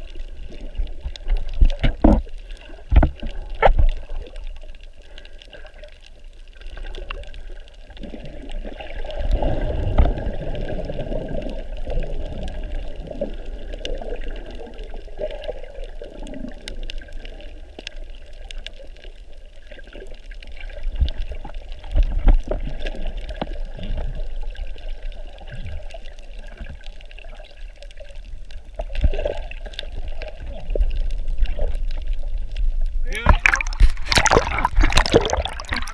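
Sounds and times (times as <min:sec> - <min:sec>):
water sloshing and gurgling: 0:00.0 - 0:35.9.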